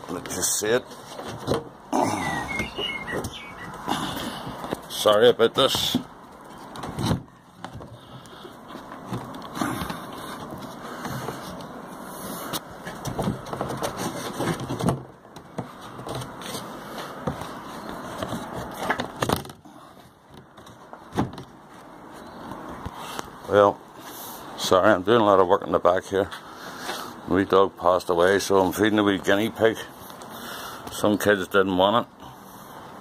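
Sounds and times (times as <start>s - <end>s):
rustling and scraping of handling: 0.0s - 24.7s, 28.2s - 31.5s.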